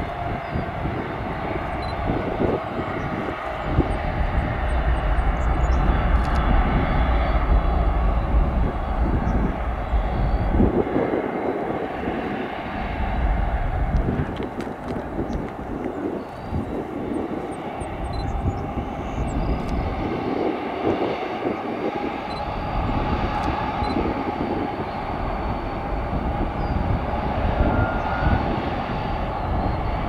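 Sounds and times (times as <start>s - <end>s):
jet engines taxiing: 0.0s - 30.0s.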